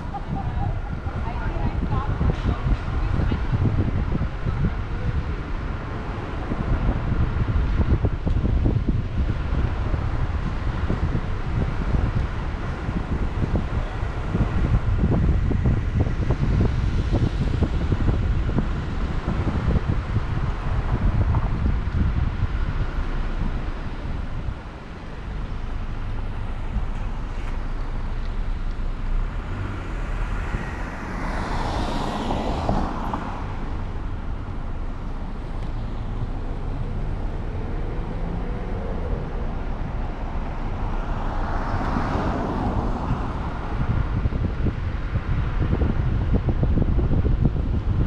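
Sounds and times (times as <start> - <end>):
car road and wind noise: 0.0 - 48.0
vehicles passing: 0.0 - 48.0.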